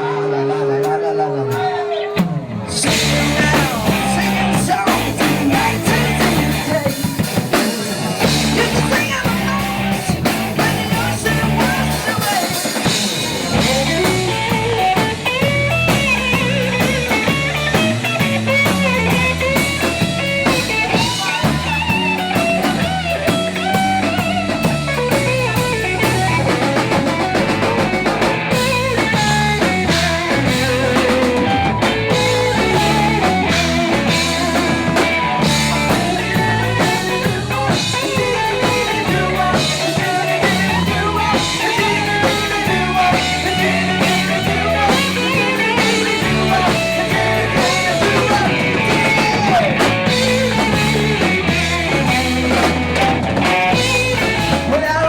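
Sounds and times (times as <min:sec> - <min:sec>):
bass guitar: 0:00.0 - 0:55.0
electric guitar lead: 0:00.0 - 0:55.0
drum kit: 0:00.8 - 0:55.0.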